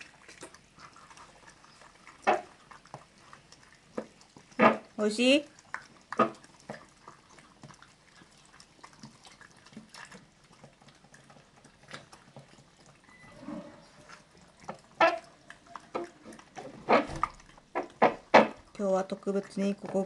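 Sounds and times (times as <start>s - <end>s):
dogs chewing and licking: 0.0s - 20.0s.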